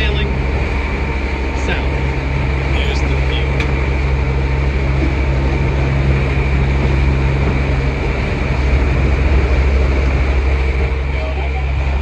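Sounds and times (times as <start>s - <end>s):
boat engine droning: 0.0s - 12.0s
water rushing: 0.0s - 12.0s.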